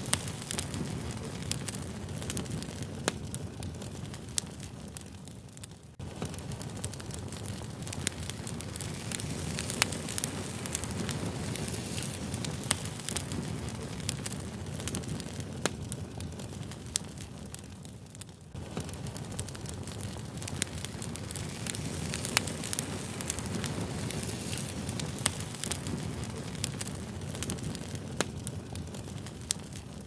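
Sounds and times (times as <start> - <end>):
fire crackling: 0.0 - 30.0
sharp pops of fire: 0.0 - 30.0.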